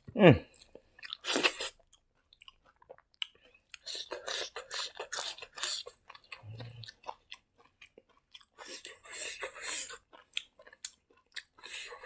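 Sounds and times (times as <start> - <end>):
wet clicks of eating rice: 0.5 - 11.9.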